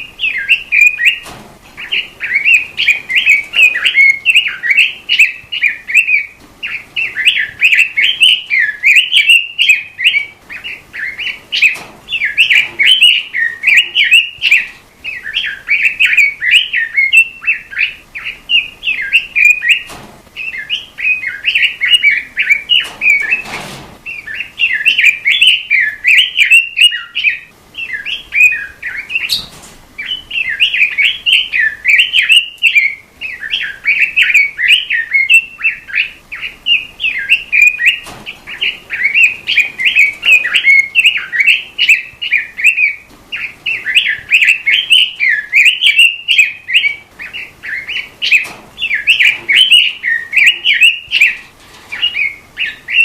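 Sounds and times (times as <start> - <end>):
robin singing warbling chatter: 0.0 - 53.0.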